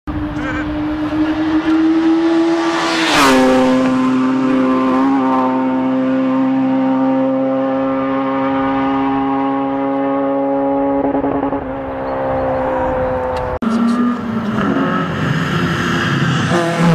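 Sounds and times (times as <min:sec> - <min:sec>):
rally car engine passing: 0:00.1 - 0:16.9.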